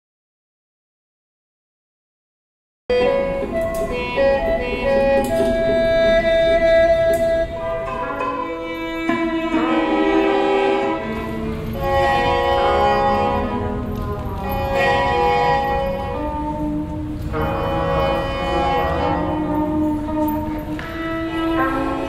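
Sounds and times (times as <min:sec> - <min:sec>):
experimental ensemble music: 0:02.9 - 0:22.0
violin long held notes: 0:02.9 - 0:22.0.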